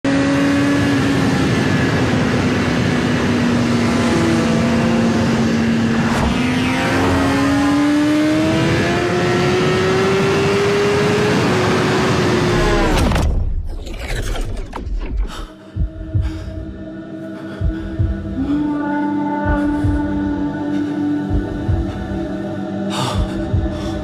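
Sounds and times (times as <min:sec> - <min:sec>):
synthesized engine drone: 0:00.0 - 0:24.0.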